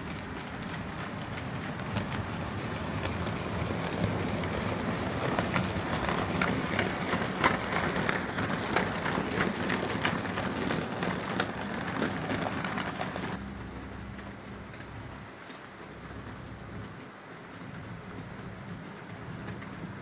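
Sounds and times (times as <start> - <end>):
model train motor humming: 0.0 - 18.6
wheels clicking over rail joints: 0.0 - 20.0.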